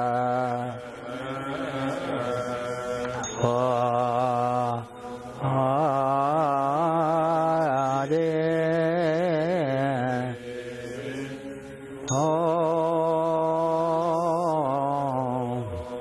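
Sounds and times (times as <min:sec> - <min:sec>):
person chanting: 0:00.0 - 0:16.0.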